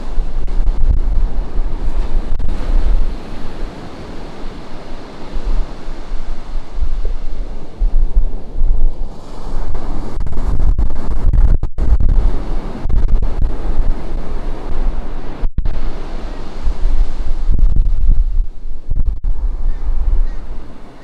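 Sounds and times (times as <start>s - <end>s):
surf breaking on a beach: 0.0s - 21.0s
wind buffeting microphone: 0.0s - 21.0s.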